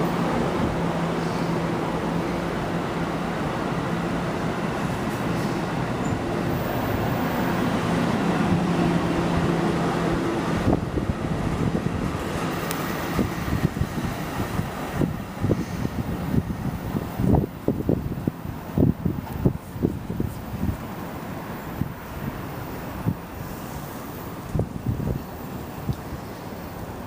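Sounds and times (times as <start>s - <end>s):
passenger train rumbling past: 0.0s - 27.0s
wind buffeting microphone: 0.0s - 27.0s.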